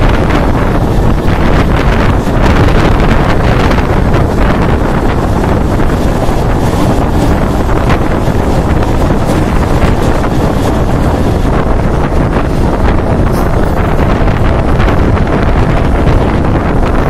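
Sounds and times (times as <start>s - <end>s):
train running on rails: 0.0s - 17.0s
wind buffeting microphone: 0.0s - 17.0s.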